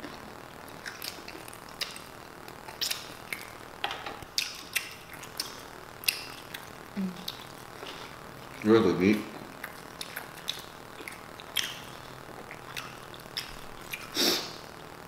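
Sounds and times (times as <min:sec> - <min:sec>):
wet chewing: 0:00.7 - 0:03.6, 0:04.3 - 0:14.2.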